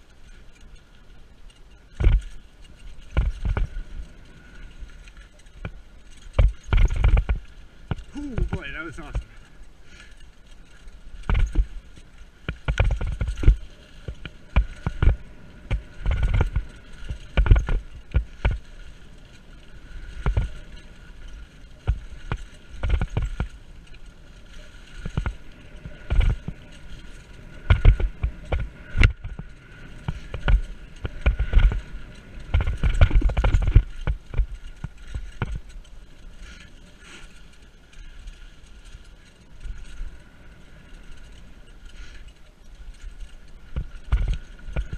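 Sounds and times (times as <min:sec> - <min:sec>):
bike thumps and rattles: 0:01.6 - 0:03.9, 0:05.0 - 0:37.4, 0:42.9 - 0:44.9
rushing riding noise: 0:01.9 - 0:44.9.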